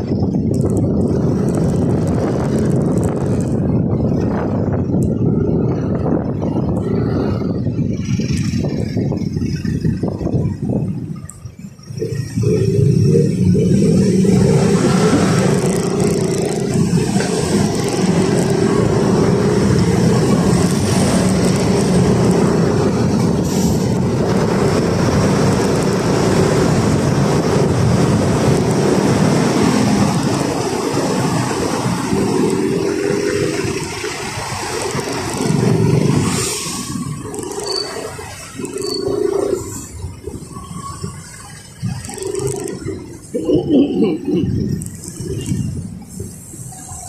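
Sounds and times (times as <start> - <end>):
motorcycle engine running: 0.0 - 43.3
wind on microphone: 0.0 - 47.0.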